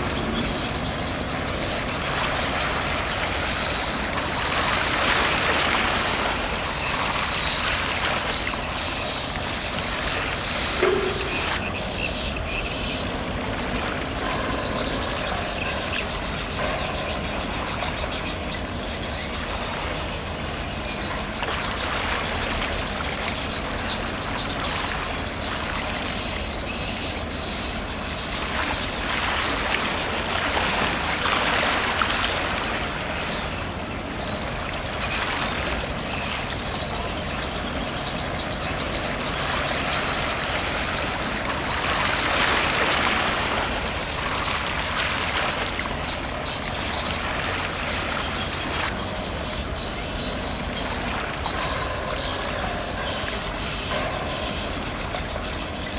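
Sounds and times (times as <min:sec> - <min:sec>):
rushing wash of water: 0:00.0 - 0:12.0, 0:19.1 - 0:55.9
ship engine low rumble: 0:00.0 - 0:55.9.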